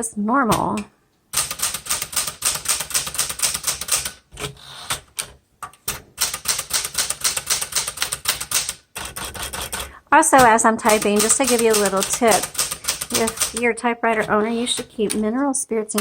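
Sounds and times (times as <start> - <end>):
manual typewriter typing: 0.5 - 16.0.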